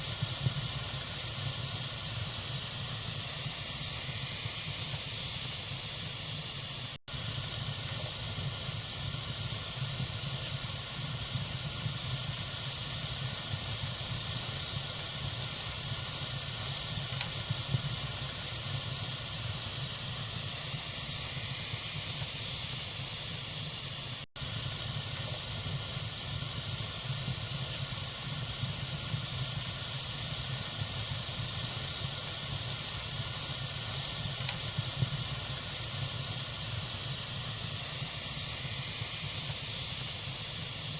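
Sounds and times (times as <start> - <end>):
faint fire crackles: 0.0 - 40.9
fire burning in fireplace: 0.0 - 40.9.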